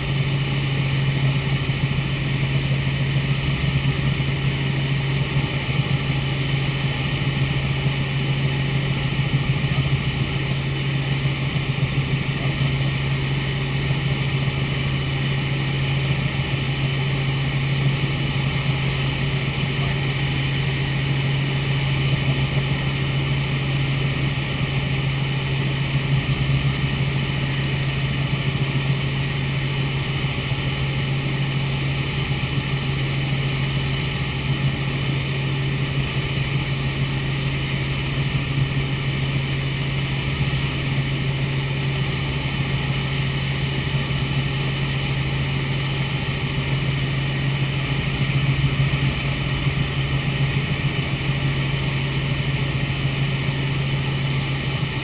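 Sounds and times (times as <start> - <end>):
helicopter drone from inside cabin: 0.0 - 55.0.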